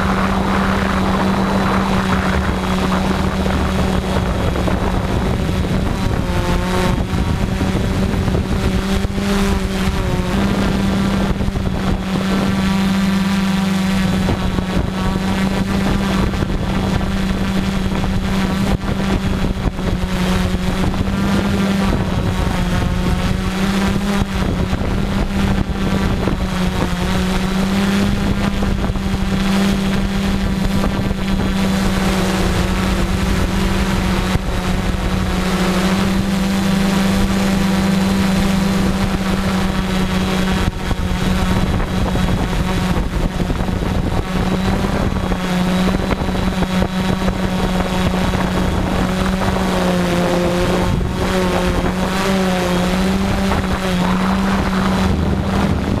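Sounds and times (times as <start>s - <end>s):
drone motors humming: 0.0s - 56.0s
wind on microphone: 0.0s - 56.0s.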